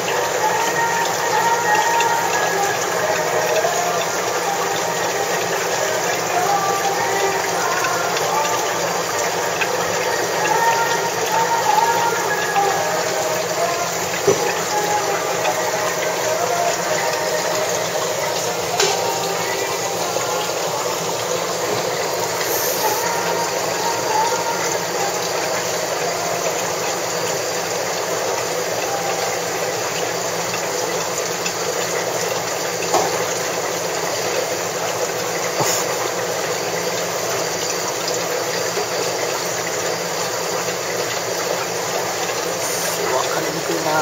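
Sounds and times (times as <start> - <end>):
aquarium filter water hiss: 0.0 - 44.0.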